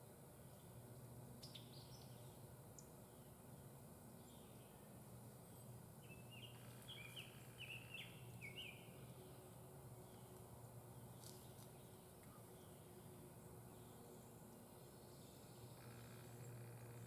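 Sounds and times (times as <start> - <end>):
songbird chirping: 1.4 - 17.0.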